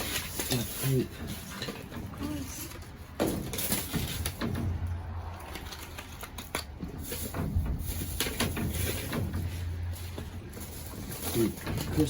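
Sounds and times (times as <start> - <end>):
plastic bags rustling: 0.0 - 12.0
small items knocking: 0.0 - 12.0.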